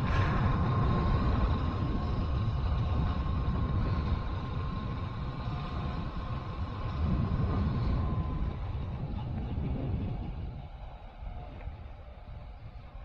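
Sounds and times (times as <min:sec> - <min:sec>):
thin steady whine: 0:00.0 - 0:13.0
vehicle engine and road rumble: 0:00.0 - 0:13.0.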